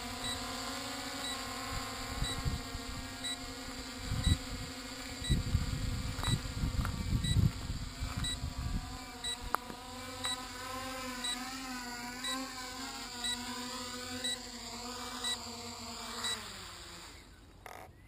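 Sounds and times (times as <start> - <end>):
drone propellers humming: 0.0 - 17.8.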